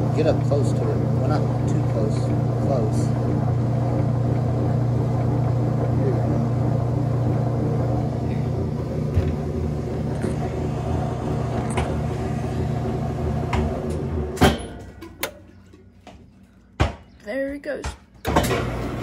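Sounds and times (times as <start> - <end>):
washing machine motor hum: 0.0 - 16.7, 18.2 - 19.0.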